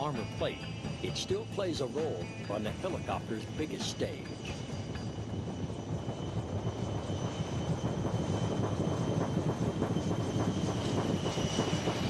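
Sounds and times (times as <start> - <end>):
faint turbine whine: 0.0 - 12.0
helicopter rotor chop: 0.0 - 12.0.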